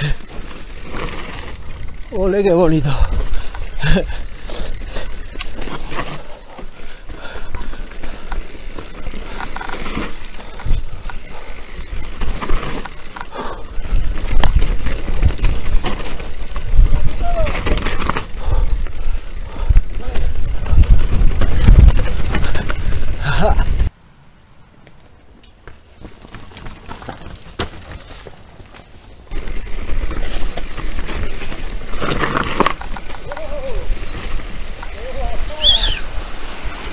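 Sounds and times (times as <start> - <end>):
tyres rolling over dirt: 0.0 - 23.9, 25.7 - 36.9
rushing trail noise: 0.0 - 36.9.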